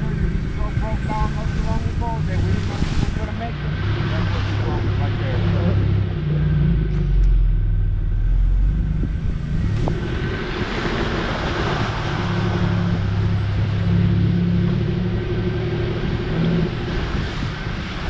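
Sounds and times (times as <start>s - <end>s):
tyre and road noise: 0.0s - 18.0s
vehicle engine running: 0.0s - 18.0s.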